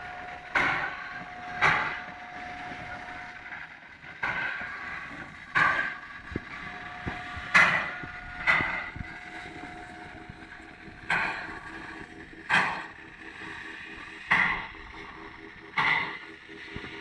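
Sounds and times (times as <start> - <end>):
steam locomotive chuffs: 0.0 - 17.0.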